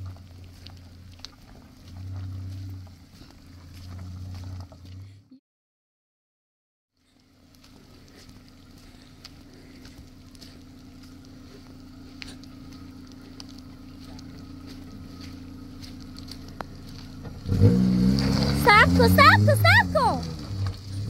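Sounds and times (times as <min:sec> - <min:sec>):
truck engine running: 0:00.0 - 0:05.1, 0:07.1 - 0:21.0.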